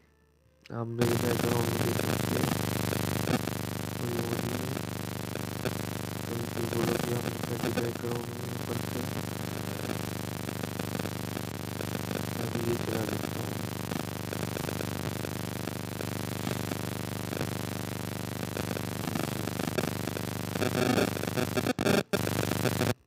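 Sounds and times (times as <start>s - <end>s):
steady buzzing hum: 0.0s - 23.0s
faint pitched sounds: 0.7s - 23.0s.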